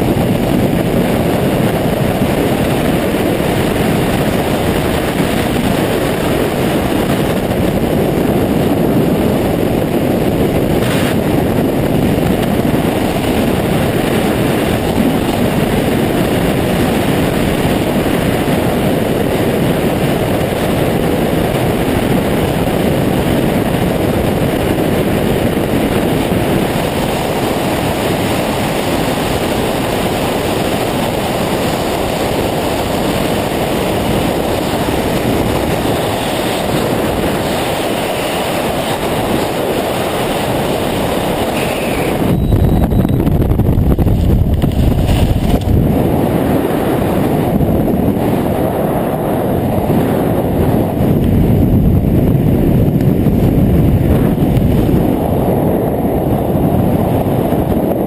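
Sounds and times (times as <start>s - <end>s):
wind roaring over microphone: 0.0s - 58.0s.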